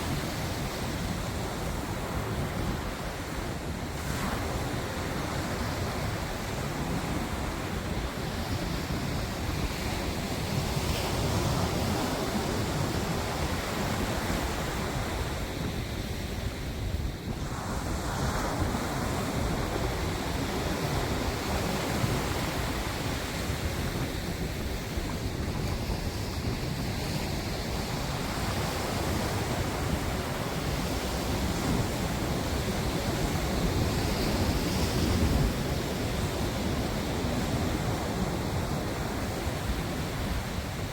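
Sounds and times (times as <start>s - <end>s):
waves breaking on shore: 0.0s - 40.9s
wind buffeting microphone: 0.0s - 40.9s.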